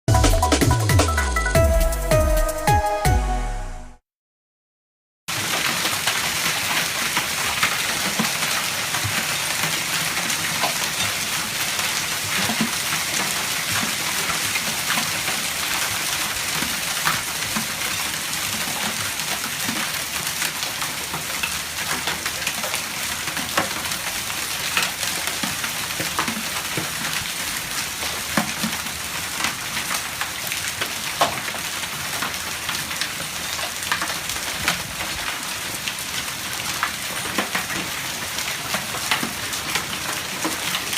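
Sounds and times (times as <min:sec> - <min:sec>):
hailstones clacking: 0:05.3 - 0:40.9.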